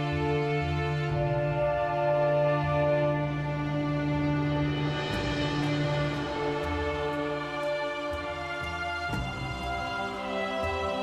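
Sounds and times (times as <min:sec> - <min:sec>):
sustained music chords: 0:00.0 - 0:11.0.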